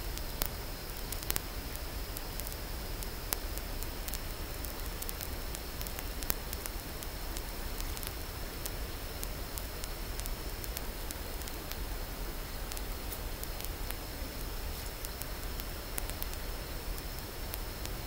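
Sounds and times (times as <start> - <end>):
static-like hiss: 0.0 - 18.0
sharp clicks: 0.2 - 11.8, 12.7 - 14.0, 15.0 - 18.0.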